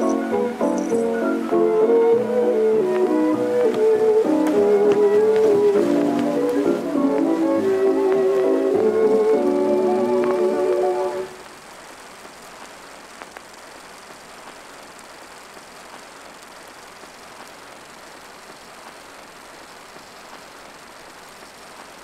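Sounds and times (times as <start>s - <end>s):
faint crackles: 0.0s - 22.0s
old film hiss: 0.0s - 22.0s.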